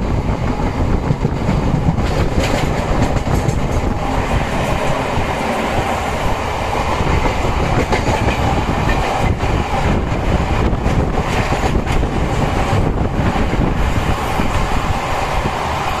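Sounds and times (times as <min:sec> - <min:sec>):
steel wheels rumbling on track: 0:00.0 - 0:16.0.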